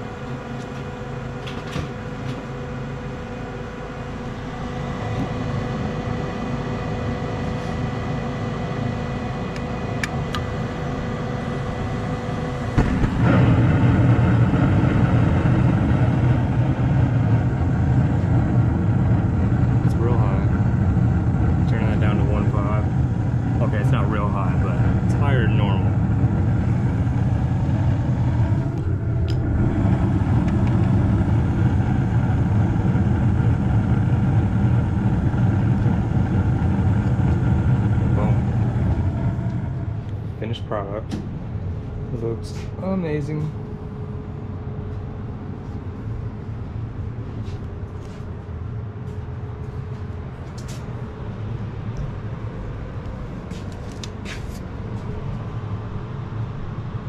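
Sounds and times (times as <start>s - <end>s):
gas furnace rumbling: 0.0s - 57.0s.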